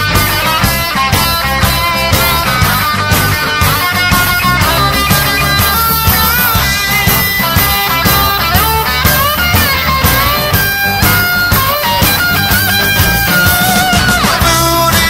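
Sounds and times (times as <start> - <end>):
bass guitar: 0.0 - 15.0
electric guitar with bent notes: 0.0 - 15.0
steady drum beat: 0.0 - 15.0.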